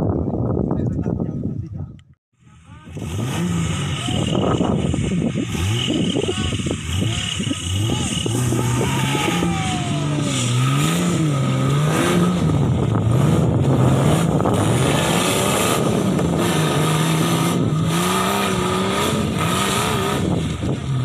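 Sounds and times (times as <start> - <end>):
buggy engine revving: 2.5 - 21.0.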